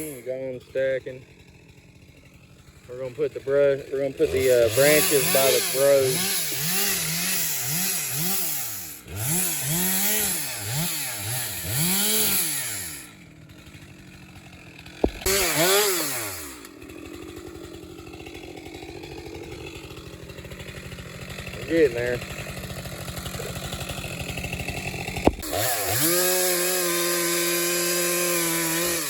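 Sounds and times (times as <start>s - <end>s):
chainsaw revving and idling: 0.0s - 29.0s.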